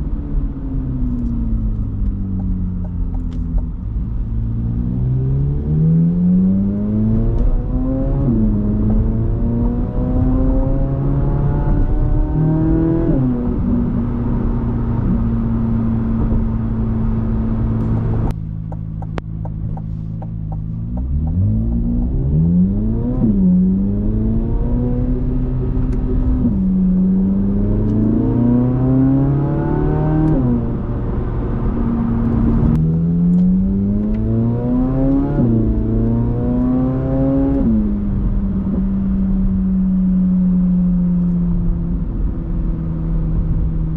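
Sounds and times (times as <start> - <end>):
car engine revving through gears: 1.1 - 43.9.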